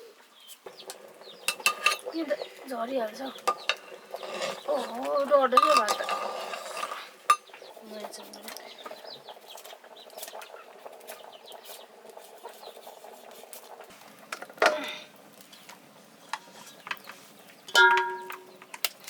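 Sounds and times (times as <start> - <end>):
metal pots and utensils clattering: 0.7 - 15.1, 16.3 - 19.0.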